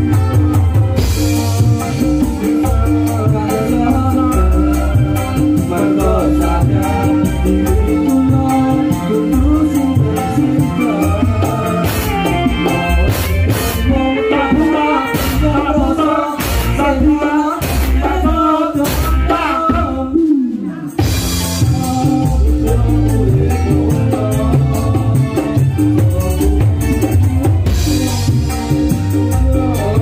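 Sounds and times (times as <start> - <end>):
hand drums: 0.0 - 30.0
live band through sound system: 0.0 - 30.0
person singing: 0.0 - 30.0.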